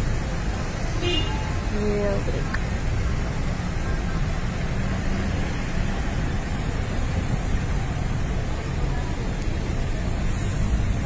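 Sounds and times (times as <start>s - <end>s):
traffic rumble and idling engines: 0.0s - 11.0s.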